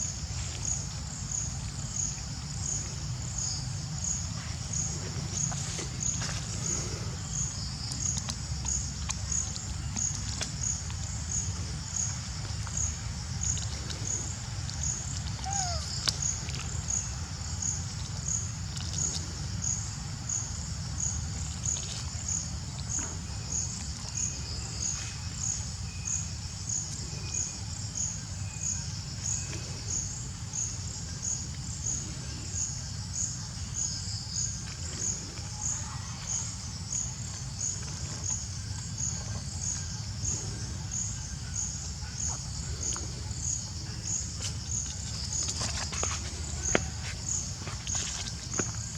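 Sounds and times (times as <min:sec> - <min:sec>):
insect chirping: 0:00.0 - 0:48.9.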